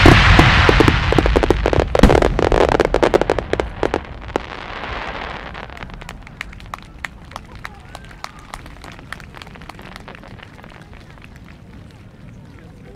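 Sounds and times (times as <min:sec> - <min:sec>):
fireworks crackling: 0:00.0 - 0:12.2.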